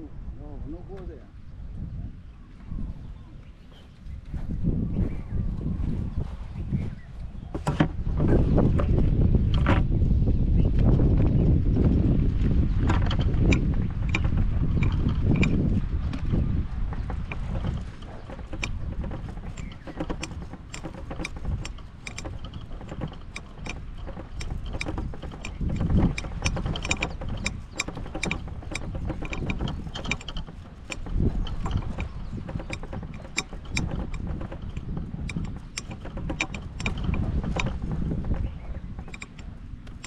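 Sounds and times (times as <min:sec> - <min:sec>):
cart wheels rumbling on grass: 0:02.6 - 0:40.0
golf cart clicks and rattles: 0:07.0 - 0:40.0.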